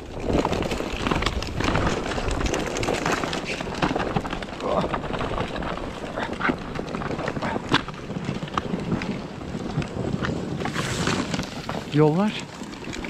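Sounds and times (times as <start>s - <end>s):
sledge runners scraping snow: 0.0s - 13.0s.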